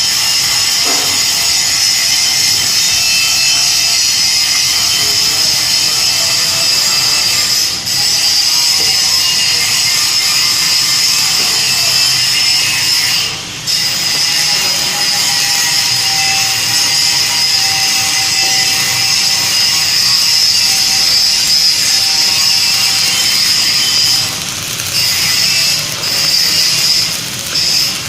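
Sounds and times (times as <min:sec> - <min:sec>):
power tool grinding steel: 0:00.0 - 0:28.0.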